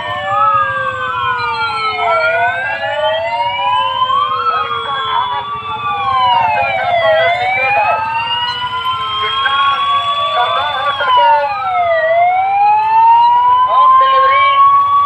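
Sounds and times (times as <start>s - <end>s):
police sirens wailing: 0.0s - 15.0s.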